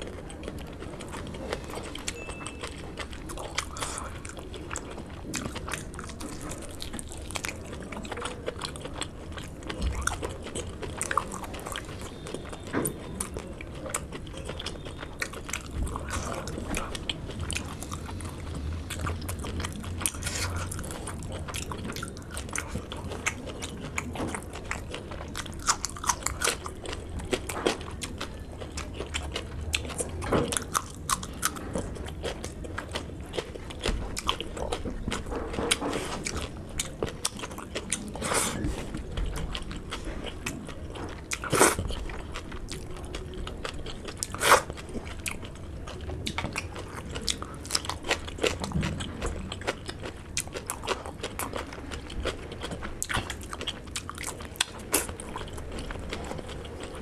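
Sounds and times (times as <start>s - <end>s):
chewing: 0.0s - 57.0s.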